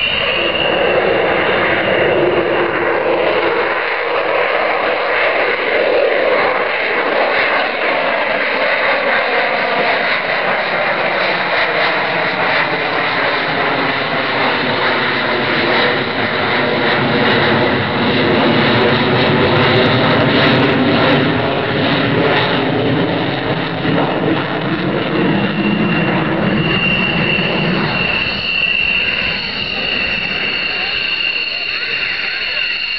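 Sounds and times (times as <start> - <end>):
jet roar overhead: 0.0 - 32.9.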